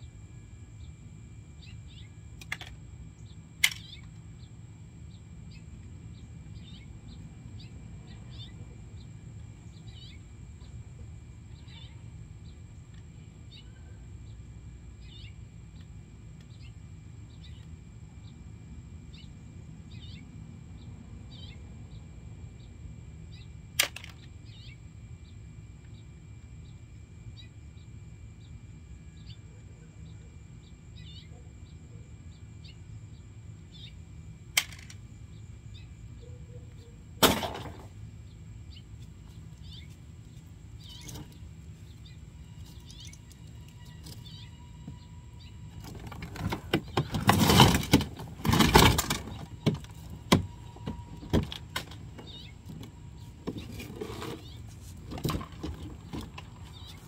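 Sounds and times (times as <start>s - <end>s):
small birds chirping: 0.7s - 23.6s, 24.4s - 37.2s, 37.8s - 57.0s.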